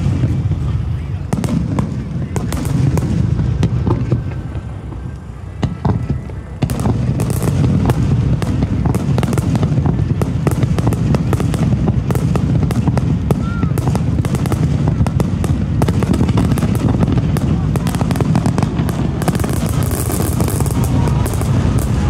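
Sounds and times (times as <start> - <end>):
firework pops and crackles: 0.0 - 0.7, 1.3 - 22.0
low rumble of firework booms: 0.0 - 22.0.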